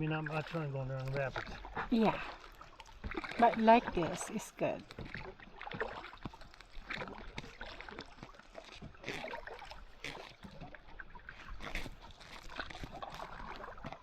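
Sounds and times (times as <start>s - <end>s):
kayak paddle splashing water: 0.0s - 14.0s.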